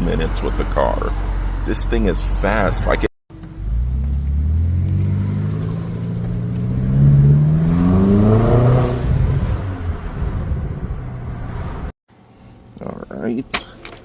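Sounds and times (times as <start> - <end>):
car engine accelerating: 0.0 - 11.9.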